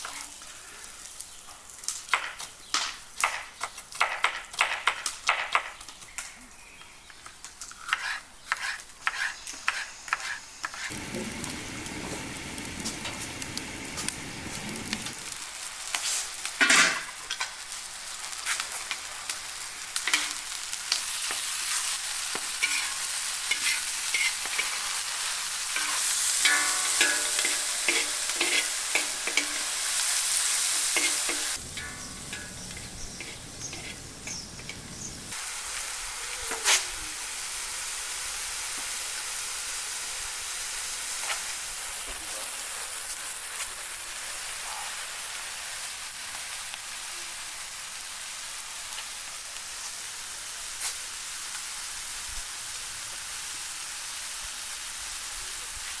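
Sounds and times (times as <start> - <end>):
food sizzling in oil: 0.0 - 1.7, 8.0 - 56.0.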